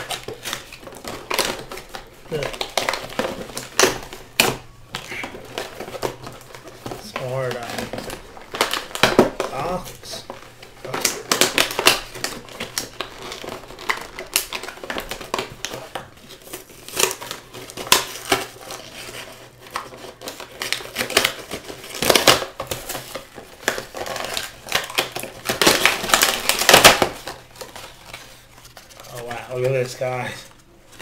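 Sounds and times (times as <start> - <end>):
plastic packaging crinkling: 0.0 - 31.0.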